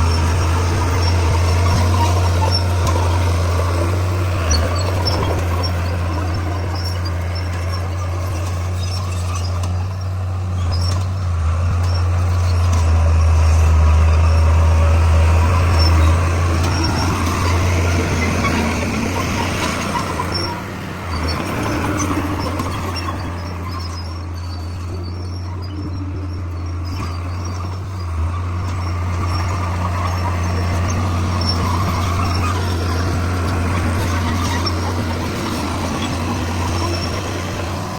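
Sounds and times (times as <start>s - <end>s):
bulldozer diesel engine running: 0.0s - 37.9s.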